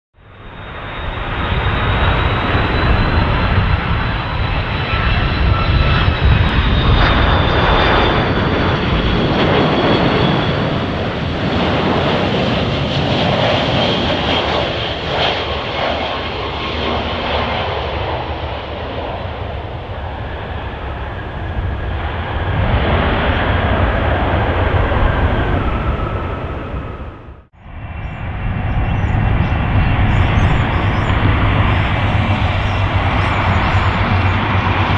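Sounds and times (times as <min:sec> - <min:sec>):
jet engines roaring: 0:00.2 - 0:34.9.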